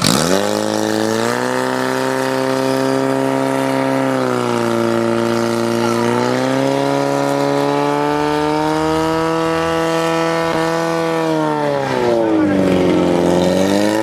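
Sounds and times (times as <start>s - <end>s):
nozzles spraying water: 0.0s - 14.0s
pump engine running at high revs: 0.0s - 14.0s.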